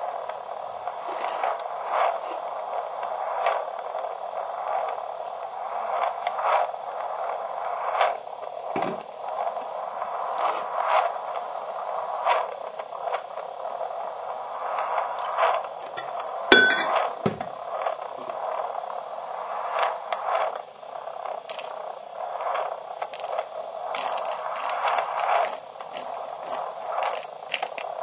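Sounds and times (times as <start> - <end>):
static hiss with crackles: 0.0 - 28.0.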